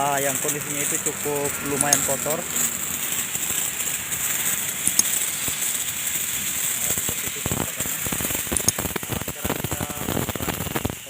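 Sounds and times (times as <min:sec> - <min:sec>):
sprayer hissing: 0:00.0 - 0:11.0.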